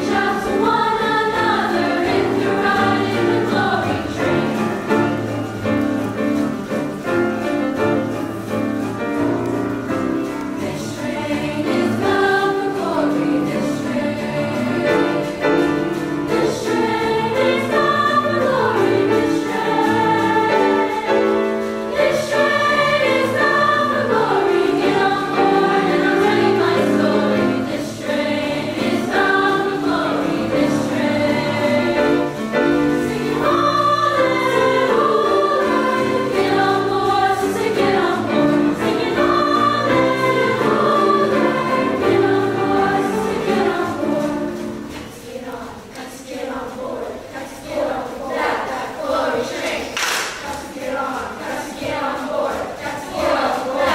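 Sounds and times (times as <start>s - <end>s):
girls' choir singing in parts: 0.0s - 53.9s
grand piano: 0.0s - 53.9s.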